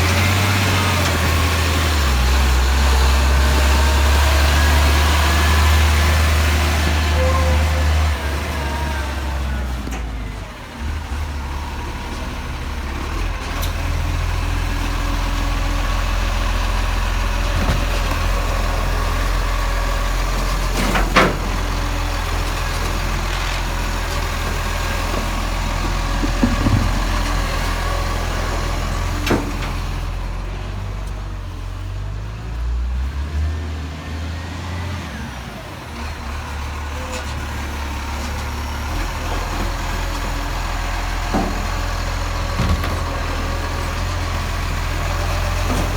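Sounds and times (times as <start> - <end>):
garbage truck engine running: 0.0 - 45.9.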